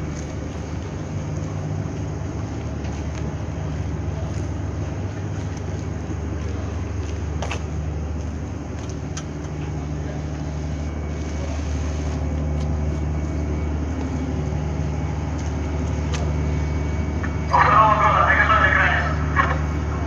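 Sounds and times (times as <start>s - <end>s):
large engine droning: 0.0s - 20.0s.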